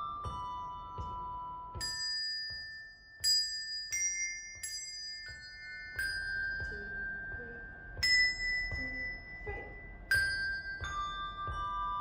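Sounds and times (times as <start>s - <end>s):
handbells ringing melody: 0.0s - 12.0s.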